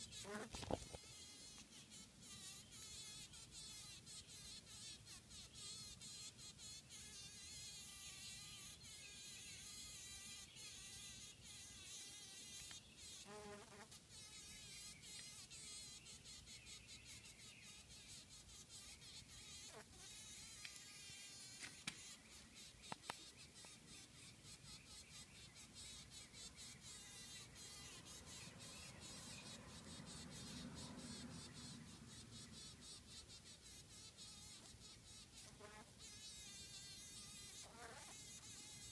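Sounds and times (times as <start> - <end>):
bee buzzing faintly: 0.0 - 38.9.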